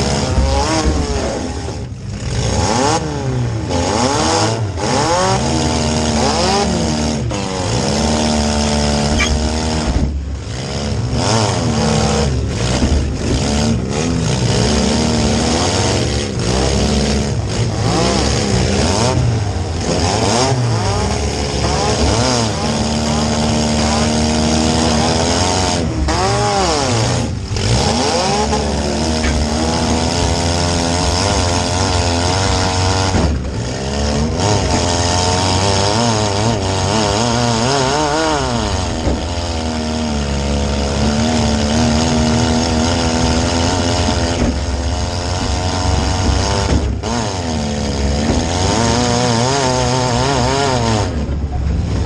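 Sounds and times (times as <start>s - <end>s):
car engine revving hard: 0.0s - 52.0s.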